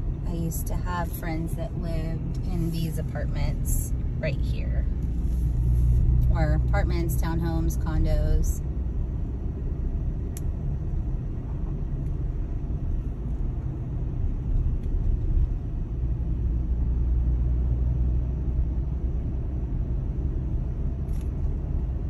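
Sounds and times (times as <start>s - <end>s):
car driving heard from cabin: 0.0s - 22.0s.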